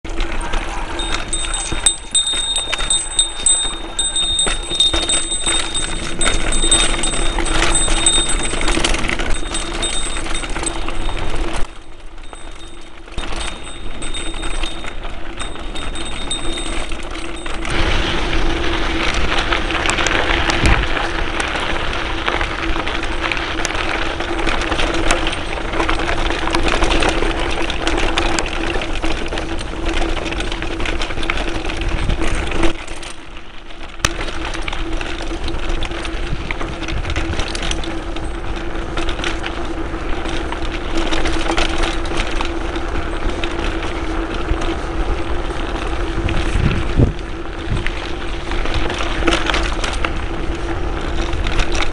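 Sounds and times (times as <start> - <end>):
bike rattling over gravel: 0.0 - 51.9
wind noise: 0.1 - 27.3, 35.5 - 51.9.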